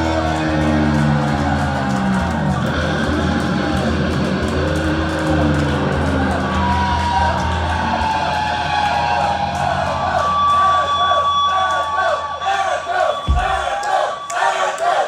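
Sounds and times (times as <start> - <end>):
crowd cheering and whooping: 0.0 - 15.0.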